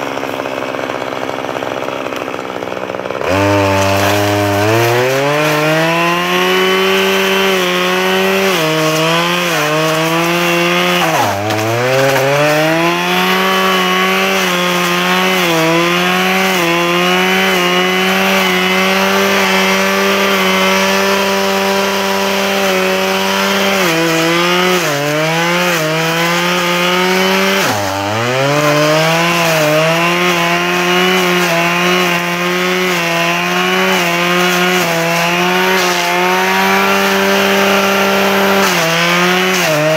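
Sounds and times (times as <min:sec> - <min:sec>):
small two-stroke engine cutting: 0:00.0 - 0:39.9.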